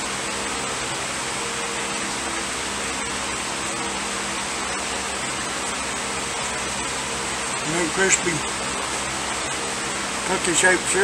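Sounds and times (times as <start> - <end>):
steady hiss: 0.9 - 11.0.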